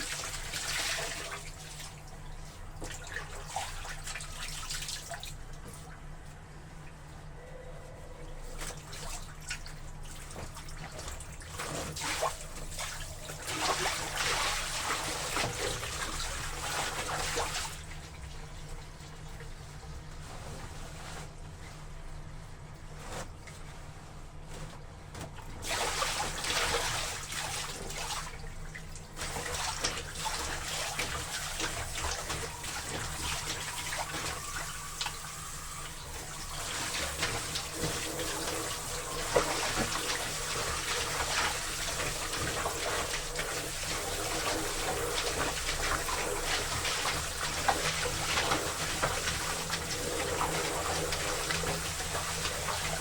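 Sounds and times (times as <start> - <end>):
water running into a tub: 0.0 - 6.0, 8.4 - 21.2, 24.5 - 53.0.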